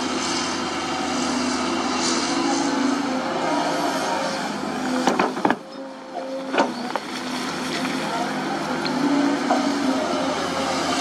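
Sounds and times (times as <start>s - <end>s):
excavator engine humming: 0.0s - 11.0s.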